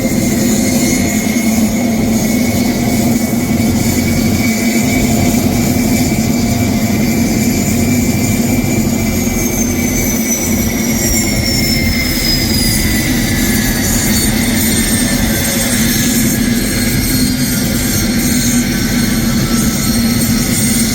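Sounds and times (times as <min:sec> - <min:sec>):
helicopter turbine engine whine: 0:00.0 - 0:20.9.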